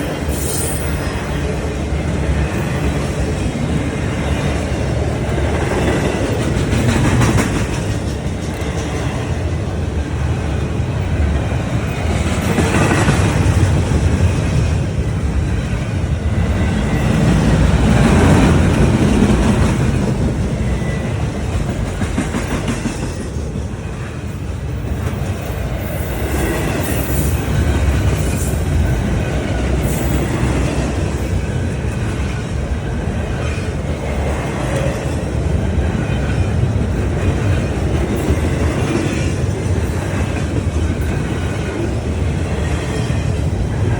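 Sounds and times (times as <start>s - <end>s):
train wheels clattering: 0.0s - 43.9s
train wheels rumbling on track: 0.0s - 43.9s.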